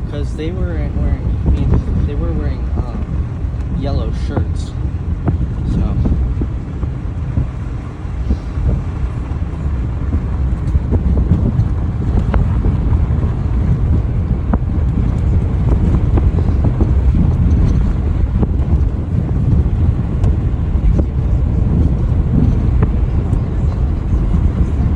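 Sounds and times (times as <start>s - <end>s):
low vehicle rumble: 0.0s - 24.9s
wind buffeting microphone: 0.0s - 24.9s.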